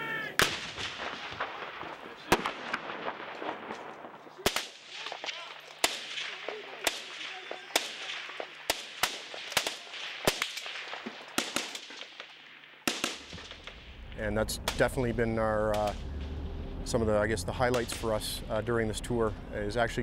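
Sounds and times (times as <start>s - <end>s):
rifle shots: 0.4s - 16.5s.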